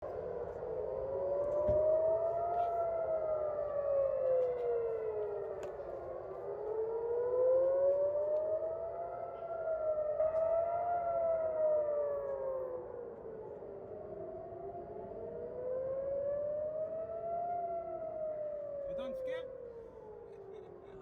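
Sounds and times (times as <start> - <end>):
air-raid sirens wailing: 0.0 - 21.0.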